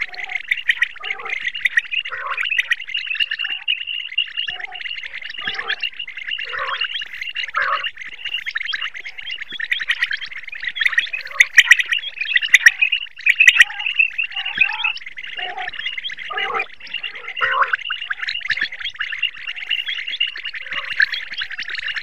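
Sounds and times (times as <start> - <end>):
quail calling: 0.0 - 22.0.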